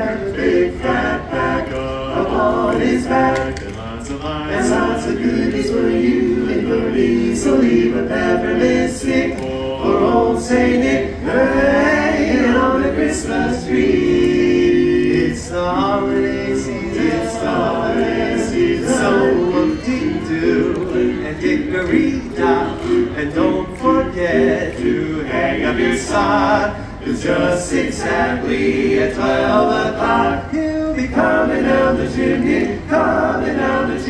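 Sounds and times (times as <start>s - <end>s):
male quartet singing a cappella: 0.0s - 34.0s.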